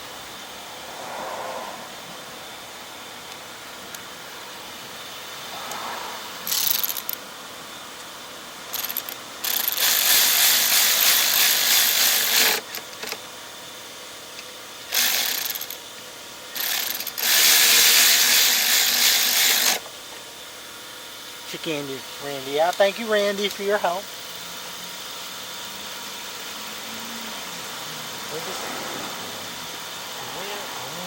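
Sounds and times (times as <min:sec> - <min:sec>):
power tool running in bursts: 0:01.9 - 0:07.4, 0:08.5 - 0:20.0, 0:21.4 - 0:31.0.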